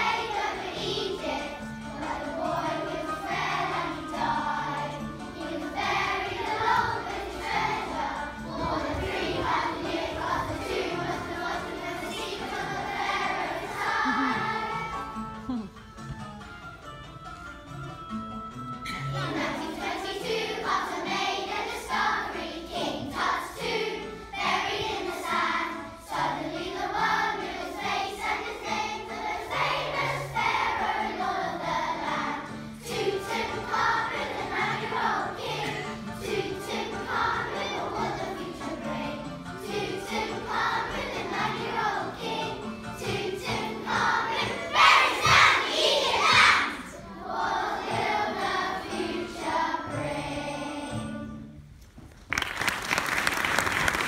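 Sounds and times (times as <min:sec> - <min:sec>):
children's choir singing: 0:00.0 - 0:15.7, 0:18.8 - 0:51.8
musical accompaniment: 0:00.0 - 0:54.0.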